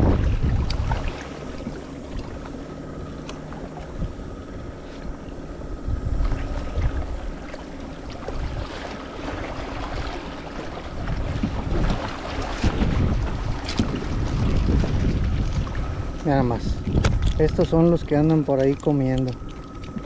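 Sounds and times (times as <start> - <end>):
waves lapping against rocks: 0.0 - 5.3, 6.0 - 20.0
wind buffeting microphone: 0.0 - 20.0.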